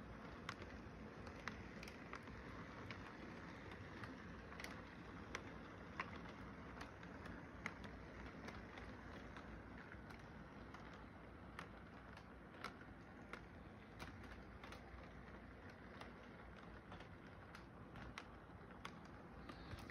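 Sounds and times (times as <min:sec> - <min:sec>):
model train rolling on track: 0:00.0 - 0:19.9
wheels clicking over rail joints: 0:00.0 - 0:19.9.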